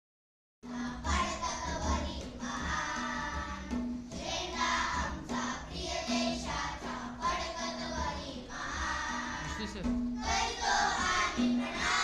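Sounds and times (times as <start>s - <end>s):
children singing together: 0.6s - 12.0s
tabla drum strokes: 0.6s - 12.0s.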